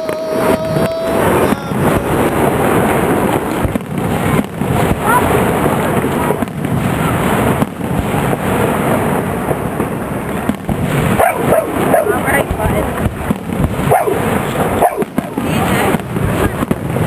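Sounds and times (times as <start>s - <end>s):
fireworks booms and crackle: 0.0s - 17.0s
sharp firework bangs: 0.0s - 17.0s.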